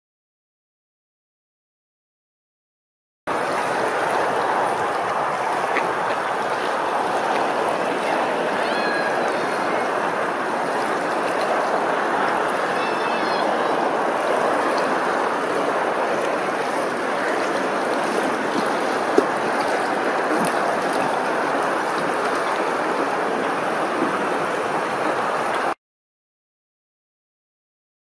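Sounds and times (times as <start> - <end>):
moving water: 3.3 - 25.8.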